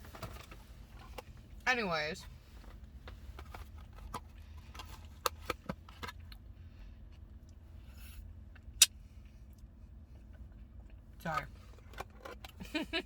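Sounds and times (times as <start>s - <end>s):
low rumble inside a car: 0.0s - 13.0s.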